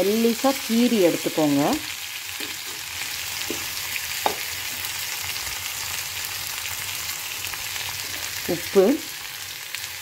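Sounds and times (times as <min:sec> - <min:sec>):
vegetables frying in hot oil: 0:00.0 - 0:10.0.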